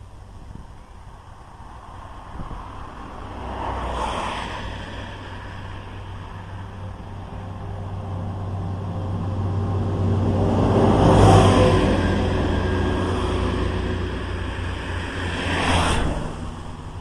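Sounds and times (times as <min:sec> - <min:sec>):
road noise: 0:00.0 - 0:17.0
vehicle engine hum passing: 0:00.0 - 0:17.0.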